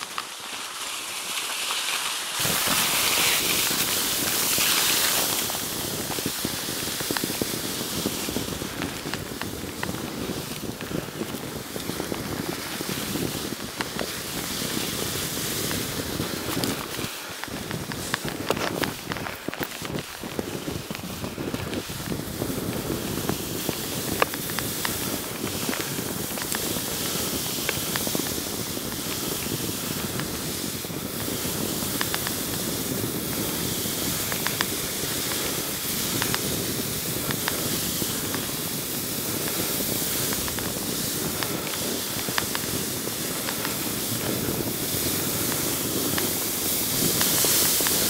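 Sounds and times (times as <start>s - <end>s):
skis hissing over snow: 0.0s - 48.0s
wind on microphone: 2.4s - 48.0s.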